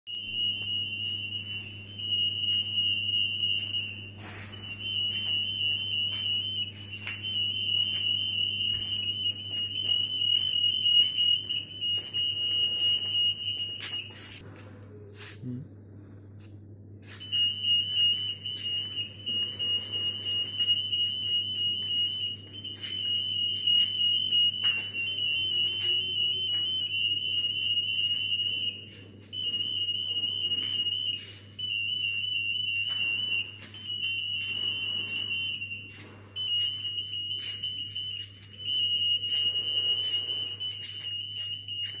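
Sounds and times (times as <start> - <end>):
security gate alarm tone: 0.1 - 14.4, 17.0 - 42.0.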